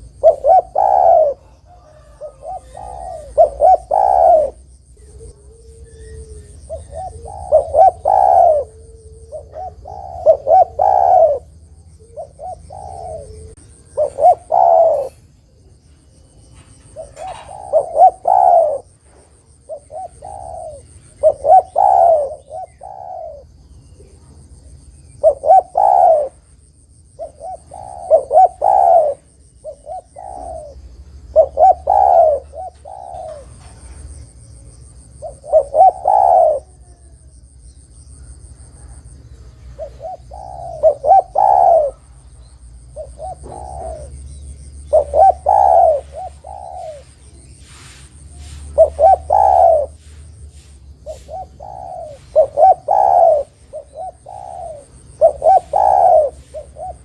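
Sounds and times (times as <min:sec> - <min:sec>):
dove cooing: 0:00.0 - 0:37.5, 0:38.1 - 0:57.0.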